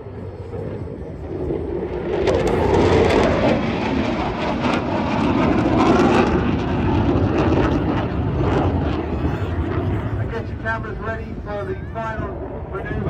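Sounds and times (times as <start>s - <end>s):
fighter jet roar: 0.0s - 13.0s.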